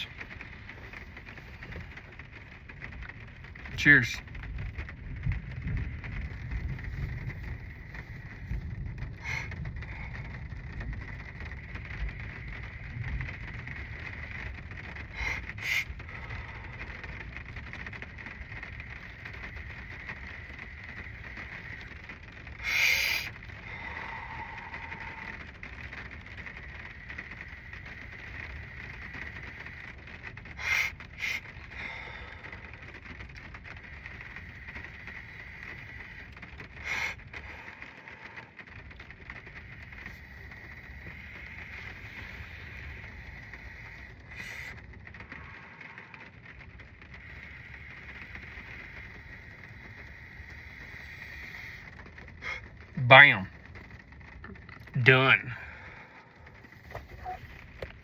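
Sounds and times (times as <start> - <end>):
rain on a car: 0.0 - 58.0.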